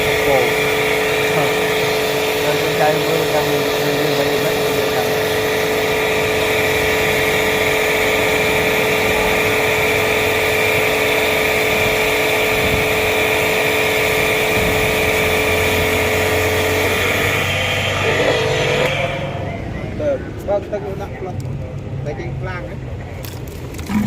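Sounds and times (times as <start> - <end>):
machine motor humming: 0.0 - 19.0, 23.7 - 24.0.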